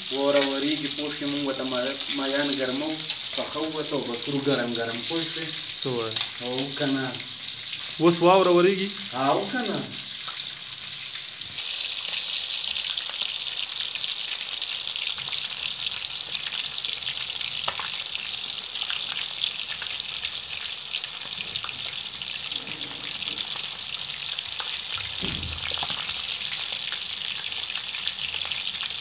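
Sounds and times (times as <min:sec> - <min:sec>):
fish sizzling in hot oil: 0:00.0 - 0:29.0.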